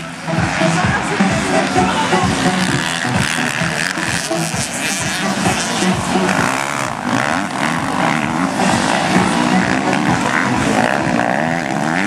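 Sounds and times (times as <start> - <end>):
motocross bike engines buzzing: 0.0 - 12.0.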